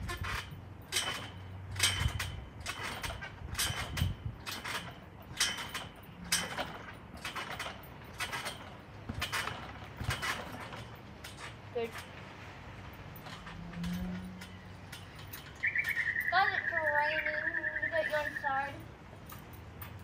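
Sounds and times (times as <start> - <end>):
trampoline springs creaking: 0.0 - 20.0.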